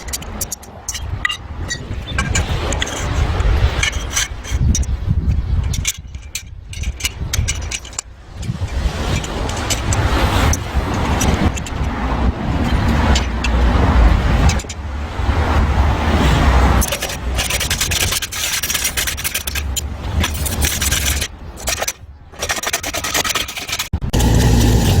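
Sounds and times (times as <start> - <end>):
scraping and rattling: 0.0 - 14.8, 16.2 - 25.0.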